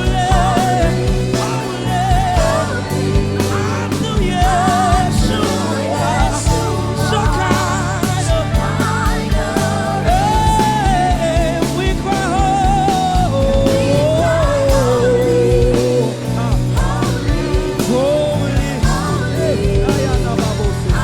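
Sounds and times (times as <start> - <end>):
gospel band playing live: 0.0 - 21.0
sliding lead melody: 0.0 - 21.0.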